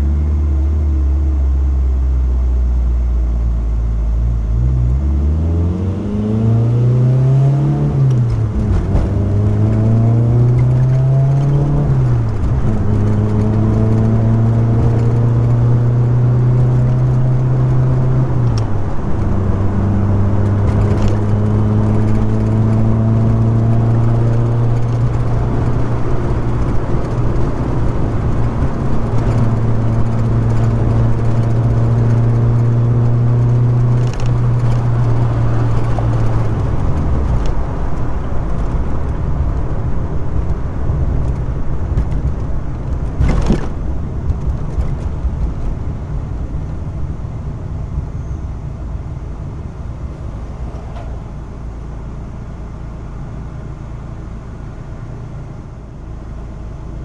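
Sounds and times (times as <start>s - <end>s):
car engine shifting gears: 4.2s - 55.6s.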